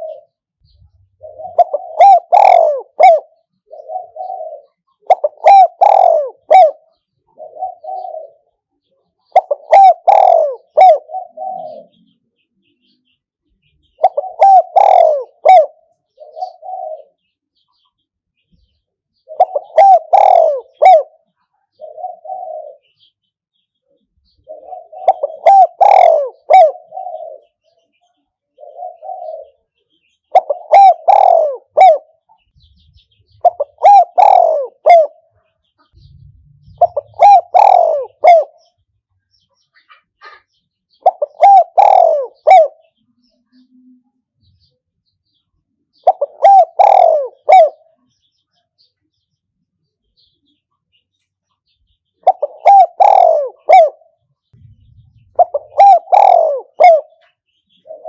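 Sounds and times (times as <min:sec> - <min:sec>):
dove cooing: 0:00.0 - 0:12.2, 0:13.8 - 0:17.8, 0:19.2 - 0:23.1, 0:24.2 - 0:38.8, 0:39.8 - 0:44.0, 0:45.9 - 0:48.1, 0:52.2 - 0:58.0.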